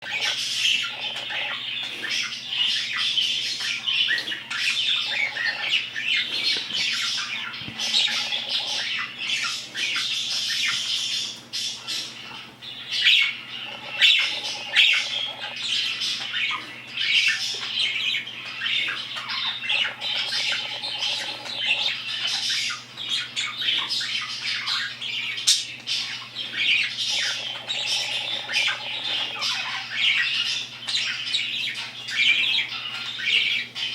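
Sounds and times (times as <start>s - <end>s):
birds squawking and chattering: 0.0s - 33.9s.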